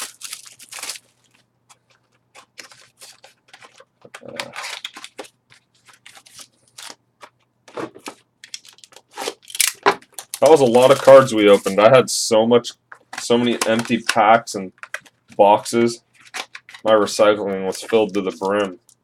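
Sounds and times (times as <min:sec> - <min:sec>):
cardboard and foil crinkling: 0:00.0 - 0:07.0, 0:07.7 - 0:11.9, 0:13.1 - 0:18.9.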